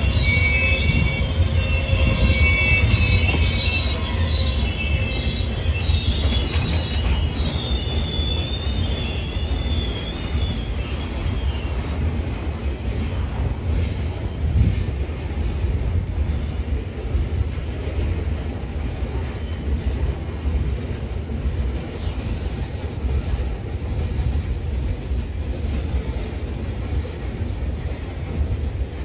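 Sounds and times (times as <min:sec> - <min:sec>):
freight train rumbling past: 0:00.0 - 0:29.0
train wheel squeal: 0:00.0 - 0:29.0.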